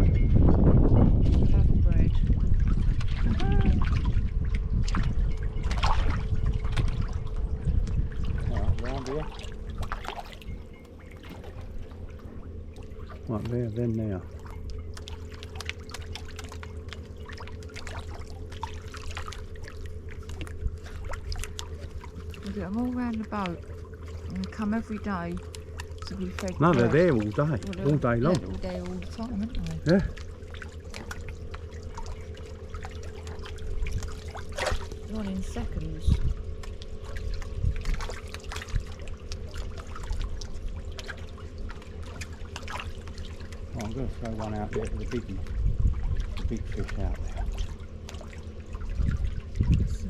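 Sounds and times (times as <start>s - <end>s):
steady low hum: 0.0s - 50.0s
fish splashing at water surface: 1.3s - 50.0s.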